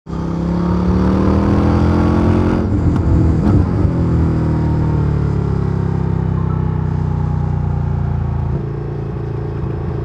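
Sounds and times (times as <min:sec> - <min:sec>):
motorcycle engine running: 0:00.1 - 0:10.0.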